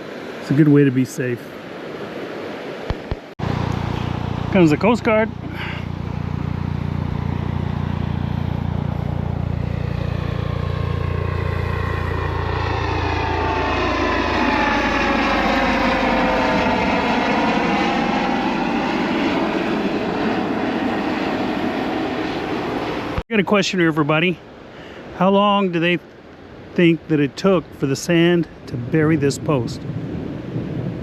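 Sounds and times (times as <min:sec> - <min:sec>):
aircraft flying low overhead: 0:01.4 - 0:25.2, 0:25.8 - 0:31.0.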